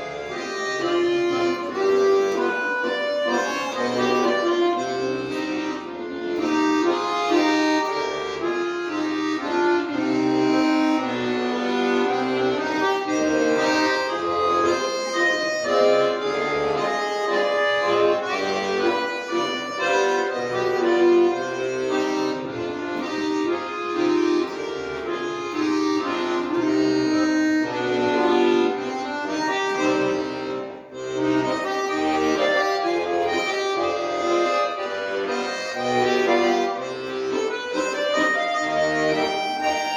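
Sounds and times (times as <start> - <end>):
accordion playing a tune: 0.0 - 39.9.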